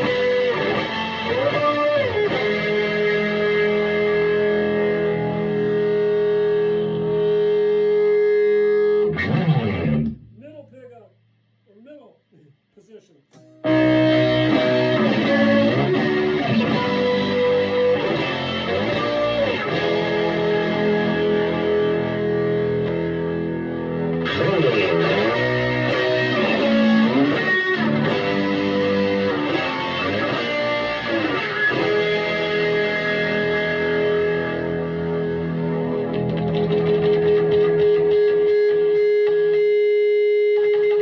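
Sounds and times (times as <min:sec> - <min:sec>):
electric guitar chords with bends: 0:00.0 - 0:10.4, 0:13.3 - 0:41.0.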